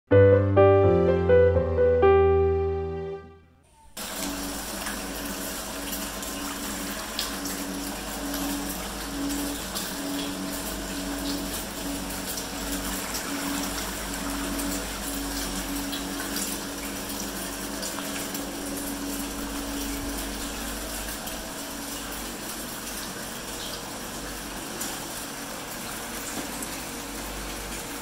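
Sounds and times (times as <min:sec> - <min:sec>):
water splashing into a tank: 0:04.0 - 0:28.0.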